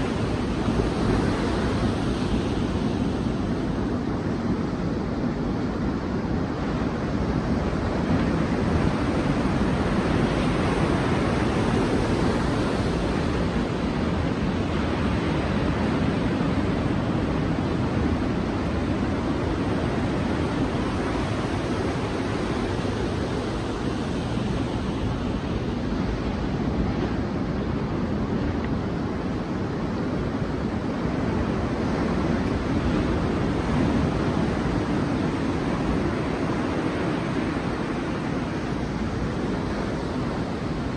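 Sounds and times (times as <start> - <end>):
sea waves washing on beach: 0.0 - 40.9.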